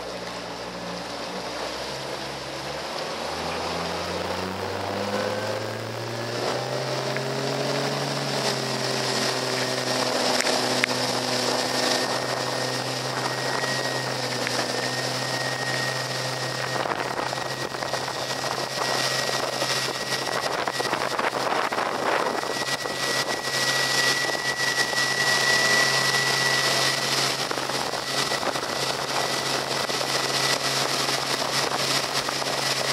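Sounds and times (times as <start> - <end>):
outboard motor running: 0.0 - 32.9
thin high whine: 0.0 - 32.9
water rushing along hull: 0.0 - 32.9.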